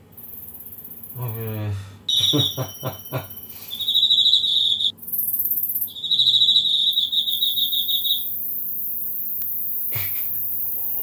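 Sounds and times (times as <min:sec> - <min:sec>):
cricket trill: 0:00.0 - 0:11.0
katydid high-pitched buzz: 0:00.2 - 0:11.0.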